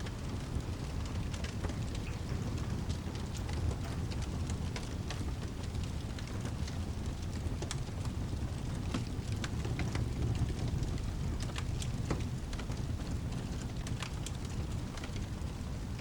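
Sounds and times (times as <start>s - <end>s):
fireplace crackling and popping: 0.0s - 16.0s
low continuous rumble: 0.0s - 16.0s
steady rain: 0.0s - 16.0s.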